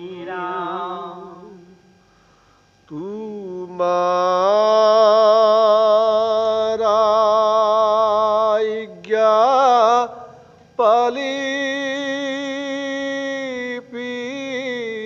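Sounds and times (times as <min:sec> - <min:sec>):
men singing devotional chant: 0:00.0 - 0:01.7, 0:03.0 - 0:15.0.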